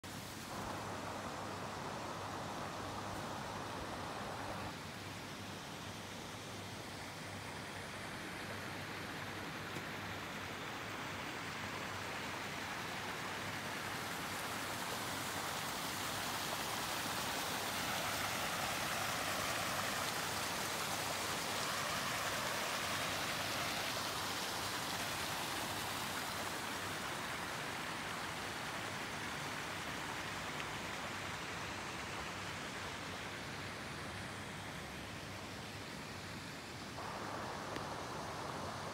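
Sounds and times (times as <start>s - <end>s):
rushing splashing water: 0.0s - 38.9s.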